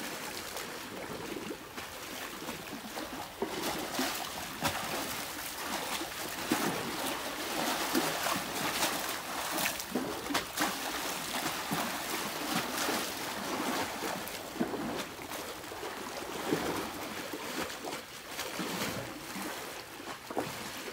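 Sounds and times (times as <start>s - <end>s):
seawater lapping against concrete: 0.0s - 20.9s
small water splashes: 0.0s - 20.9s.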